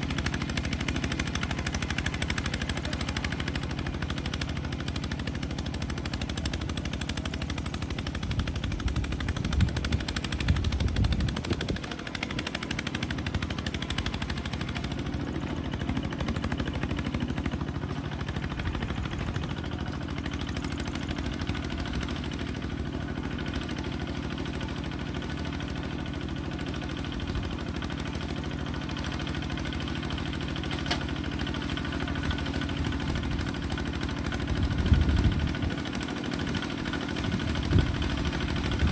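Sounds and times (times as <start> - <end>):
bulldozer engine rattling: 0.0 - 38.9.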